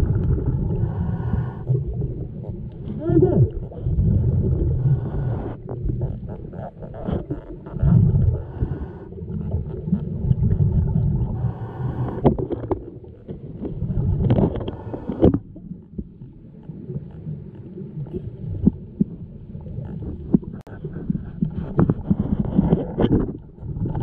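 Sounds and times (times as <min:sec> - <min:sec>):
underwater regulator bubbles: 0:00.0 - 0:24.0.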